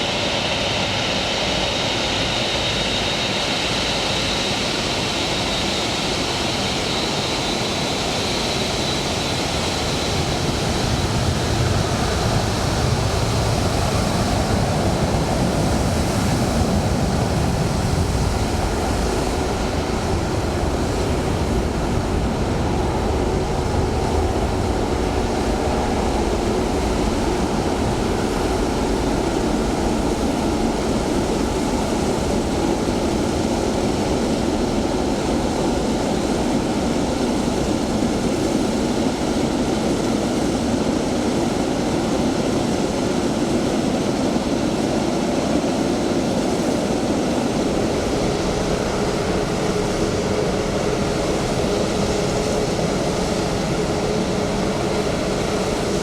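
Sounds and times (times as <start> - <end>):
jet engine deep rumble: 0.0 - 56.0
jet engine whine: 0.0 - 56.0.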